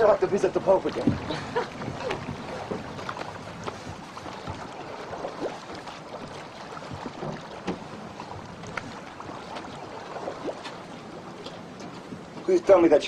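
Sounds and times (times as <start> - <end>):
small splashes: 0.0 - 12.4
water lapping against boat hull: 0.0 - 13.0
wind: 0.0 - 13.0.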